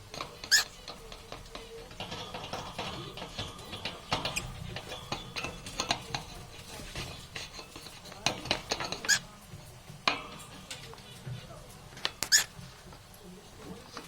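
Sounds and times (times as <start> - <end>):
parrots clicking and chirping: 0.0 - 14.0.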